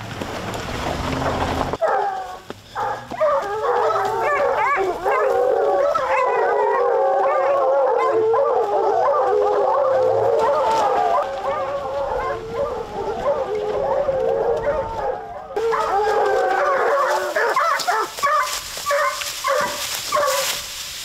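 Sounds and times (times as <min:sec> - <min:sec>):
pack of hounds baying: 0:01.0 - 0:20.6.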